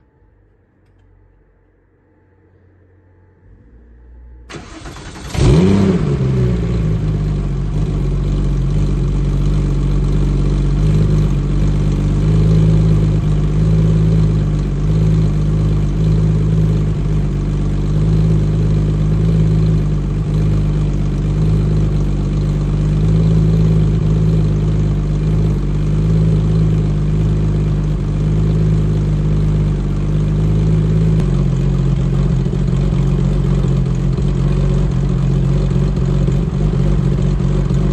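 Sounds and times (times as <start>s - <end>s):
car engine starting and idling: 3.2s - 37.9s.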